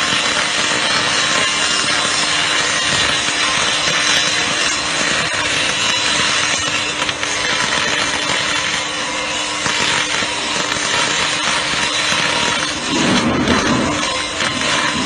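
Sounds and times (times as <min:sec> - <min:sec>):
steady hum: 0:00.0 - 0:15.0
welding arc crackling: 0:00.0 - 0:15.0.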